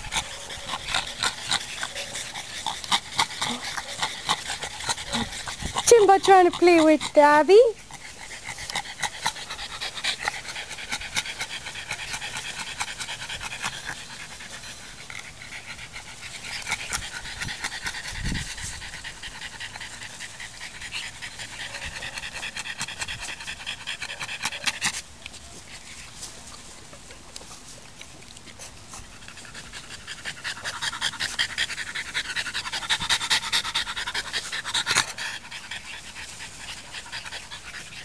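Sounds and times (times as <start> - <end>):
dog panting rapidly: 0.0 - 25.0, 28.4 - 38.0.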